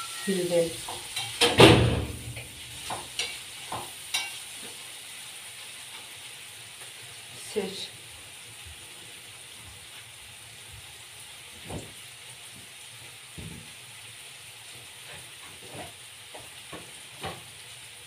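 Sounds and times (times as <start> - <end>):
food sizzling in frying pan: 0.0 - 18.0.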